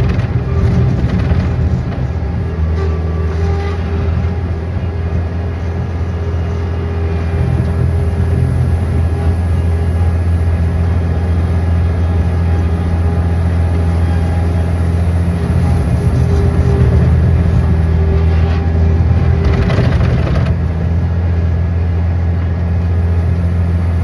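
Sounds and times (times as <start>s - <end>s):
engine droning steadily: 0.0s - 24.0s.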